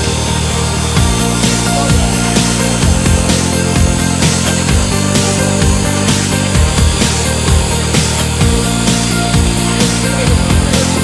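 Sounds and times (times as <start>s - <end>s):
music with heavy driving beat: 0.0s - 11.0s.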